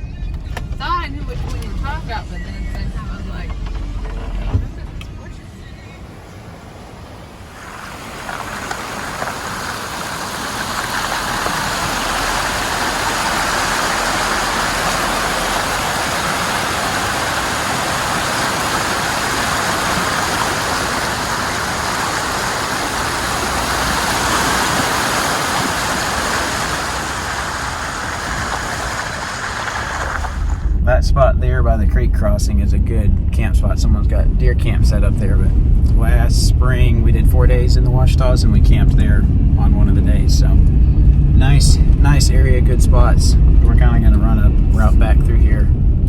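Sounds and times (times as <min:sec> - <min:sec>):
vehicle driving rushing noise: 0:00.0 - 0:46.0.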